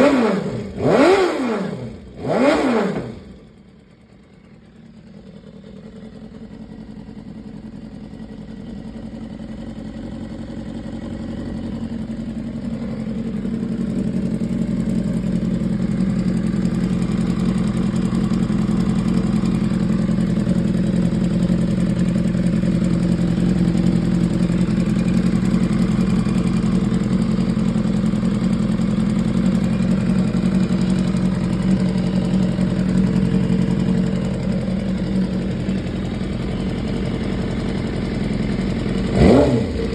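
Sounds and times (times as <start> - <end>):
engine ticking: 0.0 - 39.9
motorcycle engine idling: 0.0 - 39.9.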